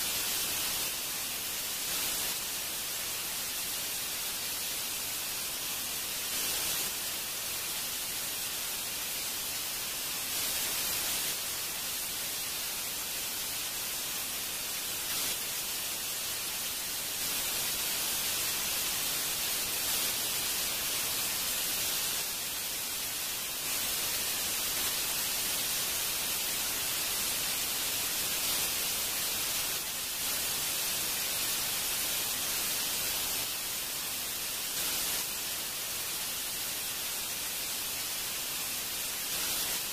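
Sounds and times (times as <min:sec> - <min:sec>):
static-like hiss: 0:00.0 - 0:39.9.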